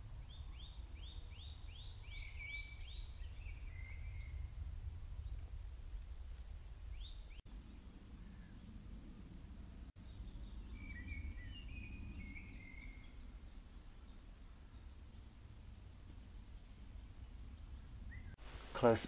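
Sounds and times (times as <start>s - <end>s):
birds chirping: 0.0s - 19.0s
low outdoor rumble: 0.0s - 19.0s.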